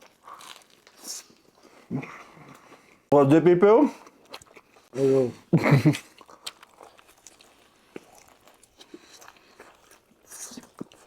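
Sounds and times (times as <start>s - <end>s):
person chewing crispy chicken: 0.0s - 3.0s, 4.0s - 4.9s, 6.0s - 11.0s.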